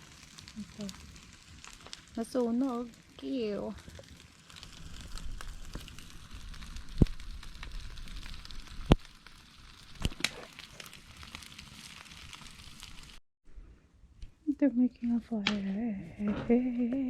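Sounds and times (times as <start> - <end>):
fire crackling and popping: 0.0 - 13.2, 15.3 - 17.0.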